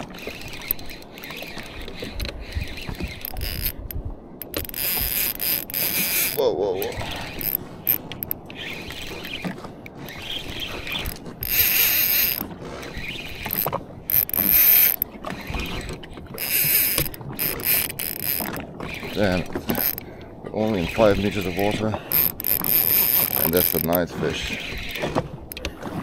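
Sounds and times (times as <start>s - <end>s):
fishing reel whirring and ratcheting: 0.0s - 25.8s.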